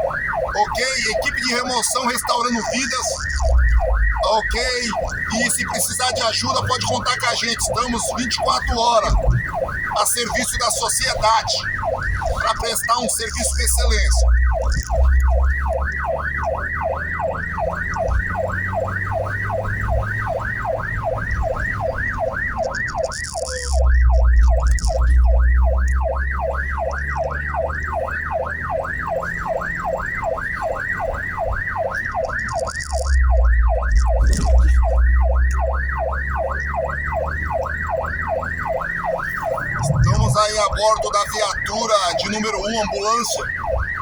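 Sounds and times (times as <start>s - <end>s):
ambulance siren yelping: 0.0s - 44.0s
vehicle engine and road rumble: 0.0s - 44.0s.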